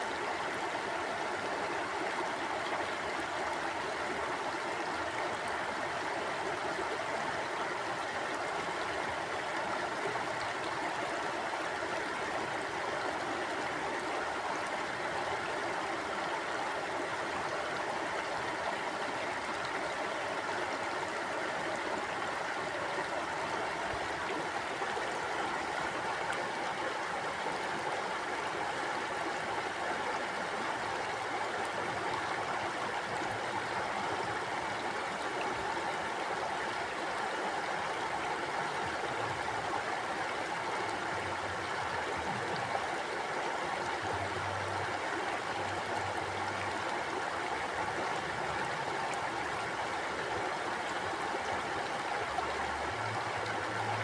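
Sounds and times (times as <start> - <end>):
river flowing over rocks: 0.0 - 54.0.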